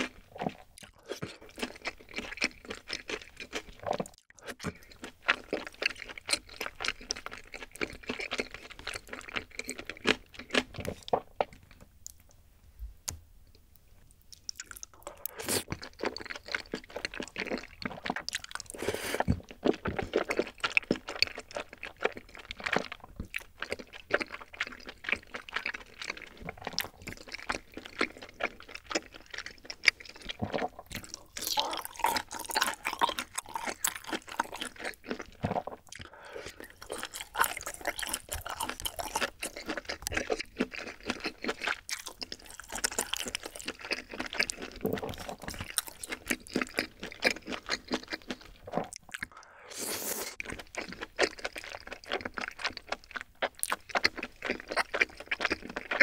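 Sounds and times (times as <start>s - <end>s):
person chewing and crunching food: 0.0s - 12.3s, 13.5s - 56.0s.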